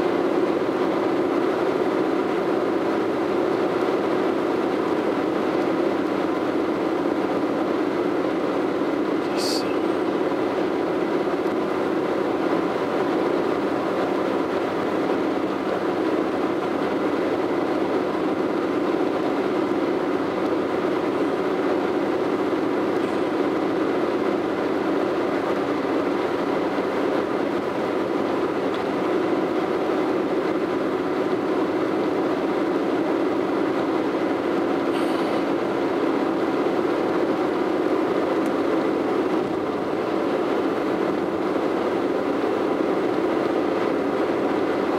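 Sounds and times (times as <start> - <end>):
car road and tyre noise: 0.0 - 44.9.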